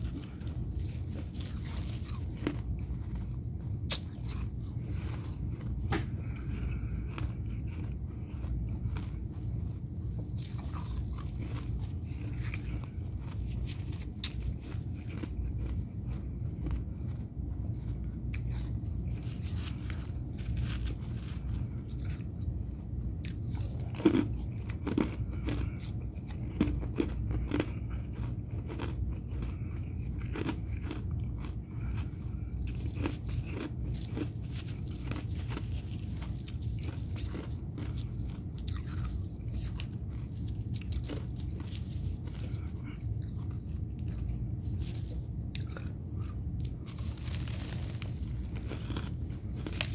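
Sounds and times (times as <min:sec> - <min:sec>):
frost crunching: 0:00.0 - 0:49.9
steady low hum: 0:00.0 - 0:49.9.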